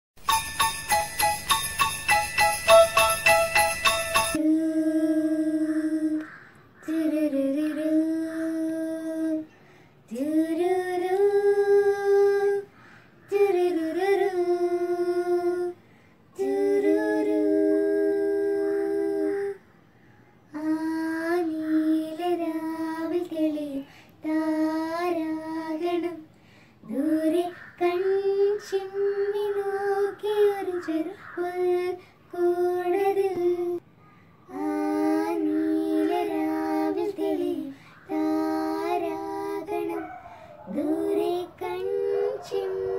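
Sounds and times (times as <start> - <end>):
girls singing unaccompanied: 4.2 - 9.5, 10.1 - 12.7, 13.3 - 15.8, 16.4 - 19.6, 20.5 - 42.9.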